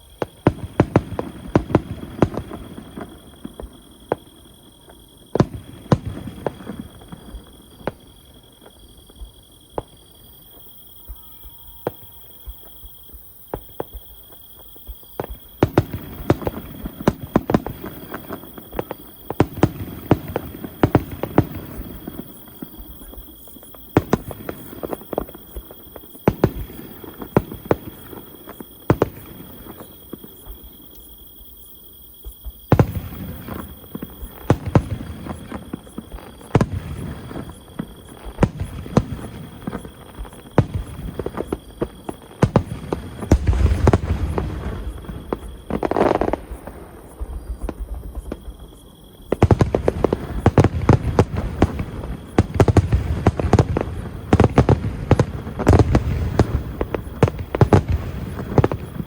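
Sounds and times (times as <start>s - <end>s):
fireworks bangs: 0.0s - 31.0s, 32.2s - 59.0s
high insect trill: 0.0s - 59.0s.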